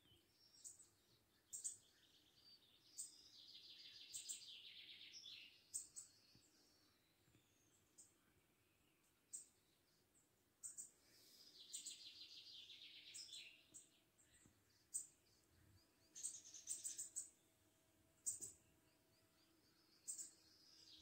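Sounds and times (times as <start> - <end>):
small bird chirping: 0.0 - 21.0.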